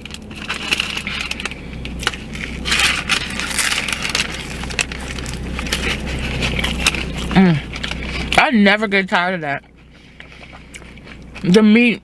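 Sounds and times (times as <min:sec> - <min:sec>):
crunchy taco chewing: 0:00.0 - 0:12.0.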